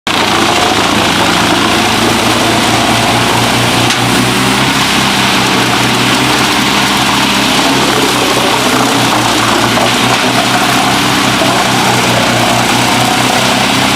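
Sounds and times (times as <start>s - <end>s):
wood chipper engine running: 0.1s - 13.9s.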